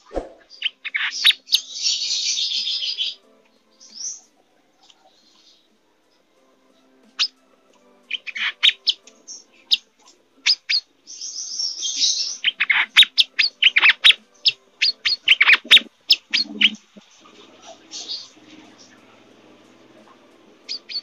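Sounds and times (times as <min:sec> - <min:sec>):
buzzy bird trill: 0:00.0 - 0:04.3, 0:08.0 - 0:21.0
bird chirping: 0:00.0 - 0:21.0.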